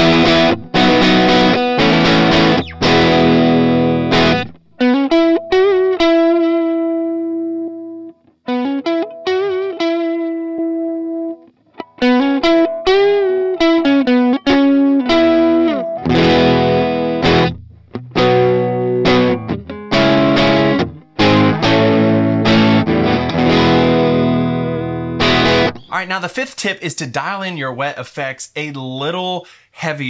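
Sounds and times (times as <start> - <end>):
overdriven electric guitar: 0.0 - 25.9.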